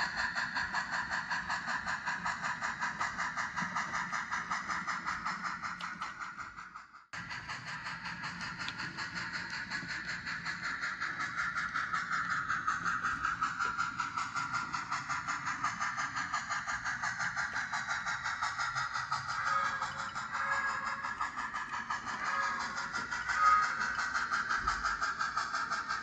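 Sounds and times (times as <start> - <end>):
model train running: 0.0 - 26.0.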